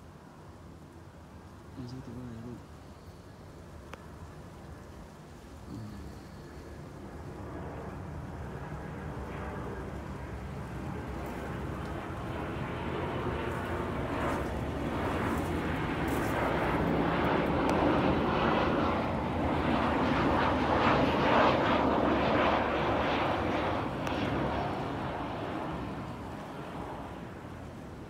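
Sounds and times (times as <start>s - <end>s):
airplane engine rush: 0.0s - 28.0s.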